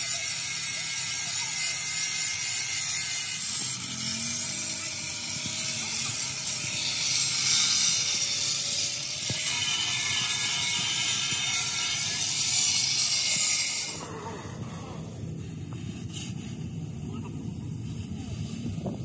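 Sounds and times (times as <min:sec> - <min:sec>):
angle grinder grinding steel: 0:00.0 - 0:15.5.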